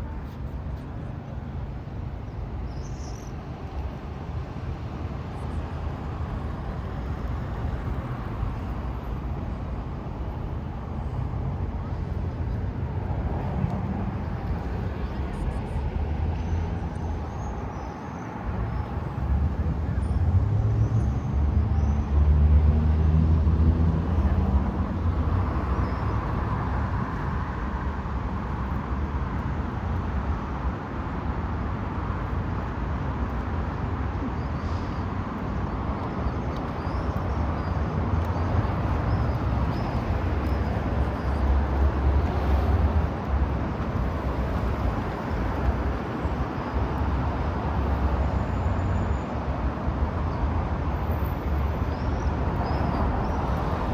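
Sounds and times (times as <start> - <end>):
road traffic rumbling: 3.4 - 53.9
vehicles passing: 3.4 - 53.9.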